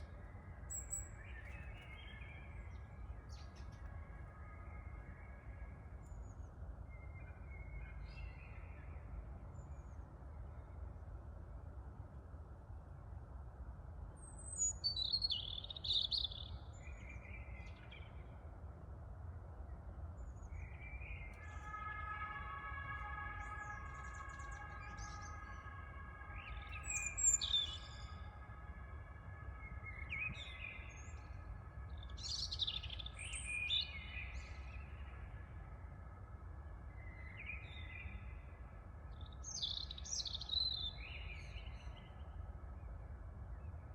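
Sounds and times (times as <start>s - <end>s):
low rumble of wind: 0.0s - 43.9s
songbirds chirping: 0.0s - 43.9s.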